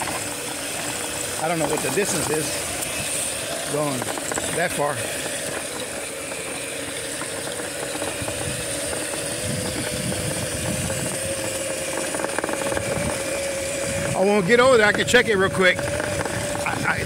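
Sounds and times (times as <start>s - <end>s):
bike rattling on rough ground: 0.0s - 17.0s
electric motor whining: 0.0s - 17.0s.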